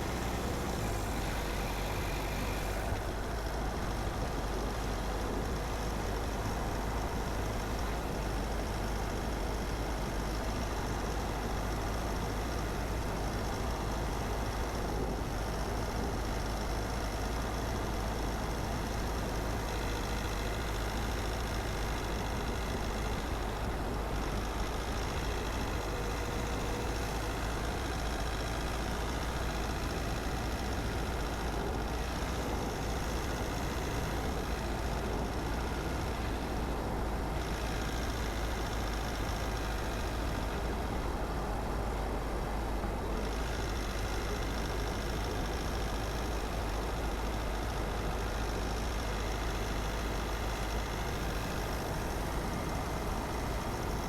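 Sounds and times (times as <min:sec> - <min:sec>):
car driving road noise: 0:00.0 - 0:54.0.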